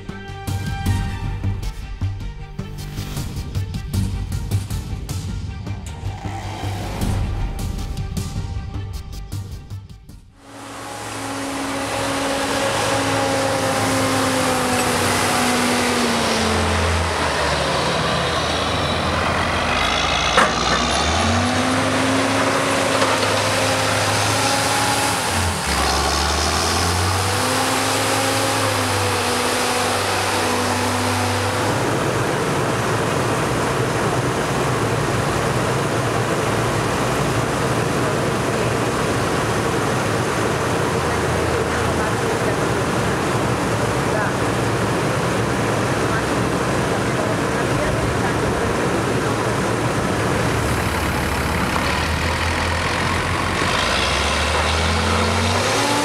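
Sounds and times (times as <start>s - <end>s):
tractor diesel engines under load: 2.8s - 9.0s, 10.3s - 56.0s
tractor engine drone with hiss: 5.8s - 8.3s, 10.4s - 56.0s.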